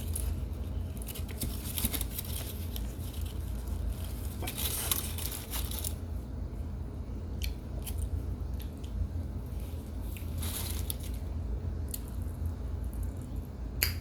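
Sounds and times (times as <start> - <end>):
crumbly squish: 0.0 - 13.7.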